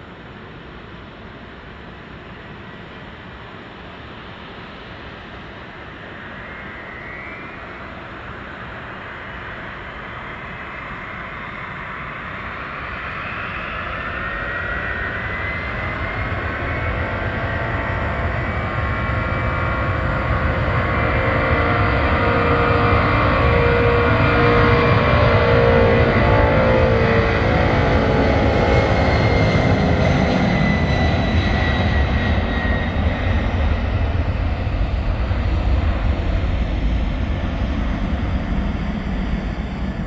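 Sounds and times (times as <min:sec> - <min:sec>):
jet engines roaring at takeoff: 0:00.0 - 0:40.0.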